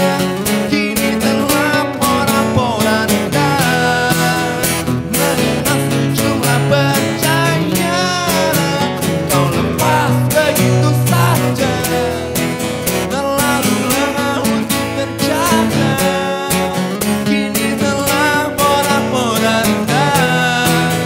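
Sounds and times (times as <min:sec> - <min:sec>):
acoustic guitars strumming: 0:00.0 - 0:21.0
man singing: 0:00.0 - 0:21.0.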